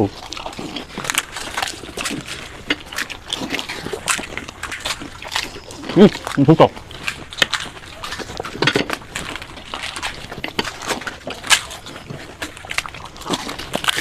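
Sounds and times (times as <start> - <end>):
crisp shells crunching: 0.0 - 14.0.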